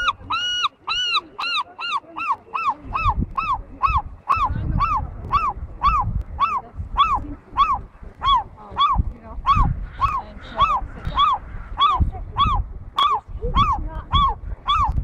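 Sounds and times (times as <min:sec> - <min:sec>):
gull calling: 0:00.0 - 0:15.0.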